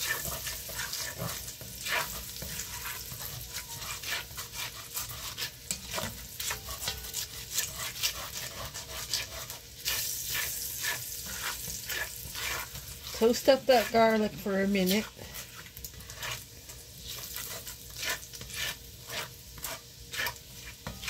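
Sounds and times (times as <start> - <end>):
garlic sizzling in a pot: 0.0 - 21.0
spatula scraping pot bottom: 0.0 - 21.0.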